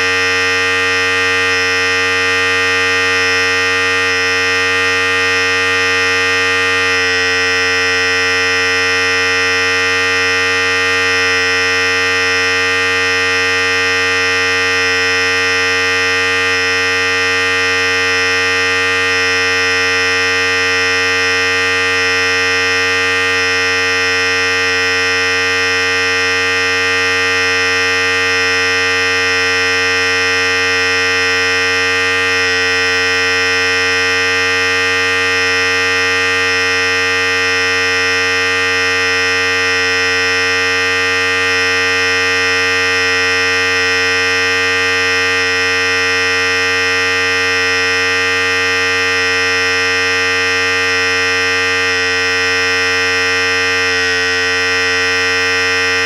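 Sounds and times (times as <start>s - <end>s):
electric hair clipper running: 0.0s - 56.0s.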